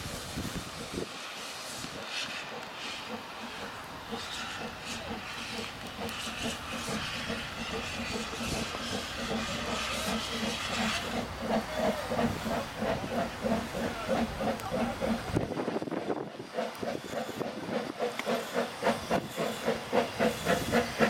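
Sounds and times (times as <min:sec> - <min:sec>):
steam hissing: 0:00.0 - 0:21.0
steam locomotive exhaust beats: 0:00.0 - 0:21.0.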